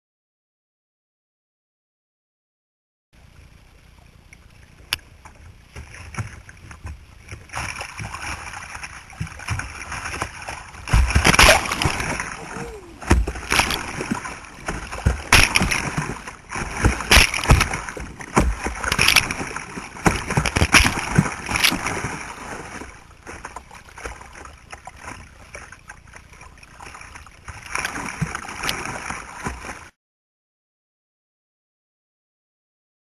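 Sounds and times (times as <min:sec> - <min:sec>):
river water rushing and splashing: 0:03.2 - 0:29.9.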